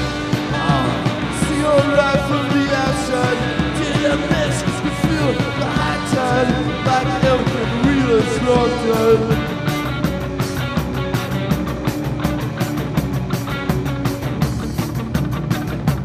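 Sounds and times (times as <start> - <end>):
rock band playing punk song: 0.0 - 16.0.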